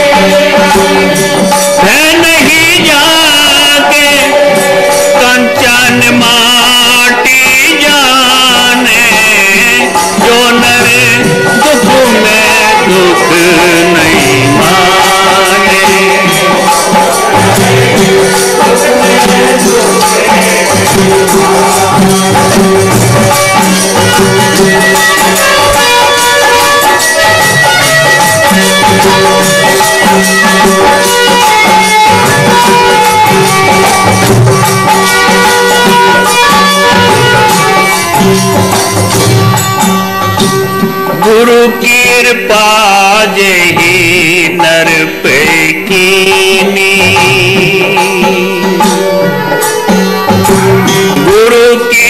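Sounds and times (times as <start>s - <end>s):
harmonium tones: 0.0s - 52.0s
rattling hand percussion: 0.0s - 52.0s
voices singing: 0.0s - 52.0s.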